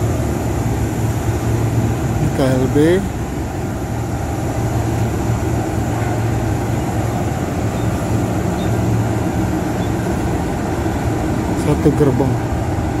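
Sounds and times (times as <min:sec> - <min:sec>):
locomotive engine idling: 0:00.0 - 0:13.0.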